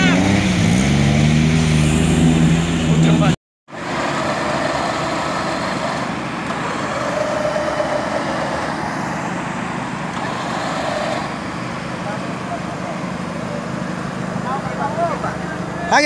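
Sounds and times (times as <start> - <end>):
off-road engines running: 0.0 - 16.0.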